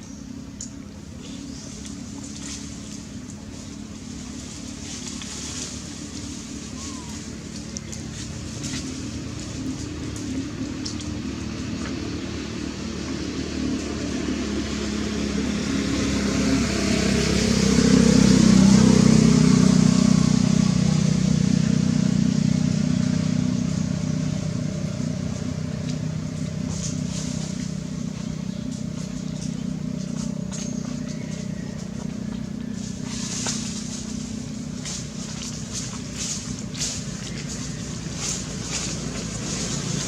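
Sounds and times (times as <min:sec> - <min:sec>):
vehicle engine hum: 0:00.0 - 0:40.0.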